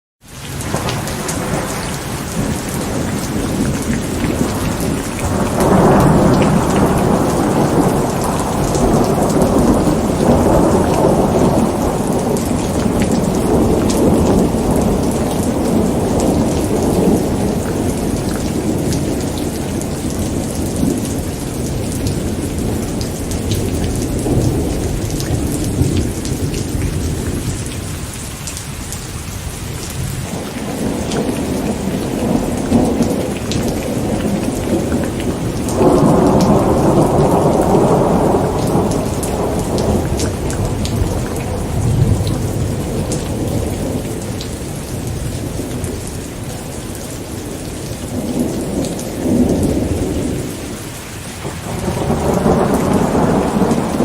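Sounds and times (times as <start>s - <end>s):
steady rain falling: 0.2s - 54.0s
rolling thunder: 0.6s - 28.2s, 29.4s - 54.0s.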